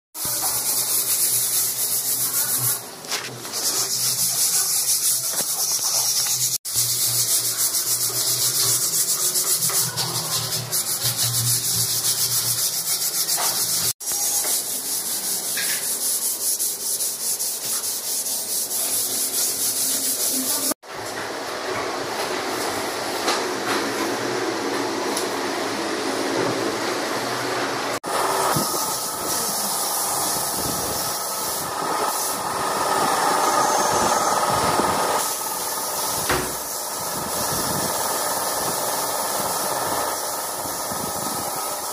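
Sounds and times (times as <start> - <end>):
sandpaper rubbing on wood: 0.2 - 20.8, 28.1 - 41.9.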